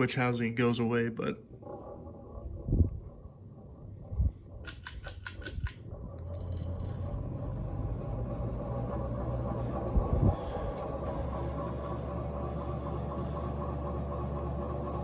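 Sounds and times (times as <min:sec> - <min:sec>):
fan motor rumbling: 0:00.0 - 0:15.0
ceiling fan clicks: 0:01.5 - 0:15.0.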